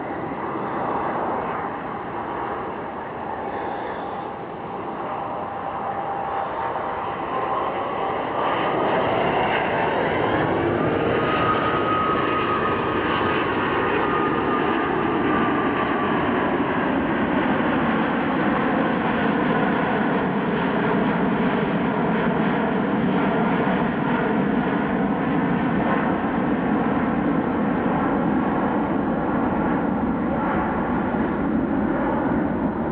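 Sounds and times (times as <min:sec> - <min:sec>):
jet engines rumbling and whining: 0:00.0 - 0:32.9.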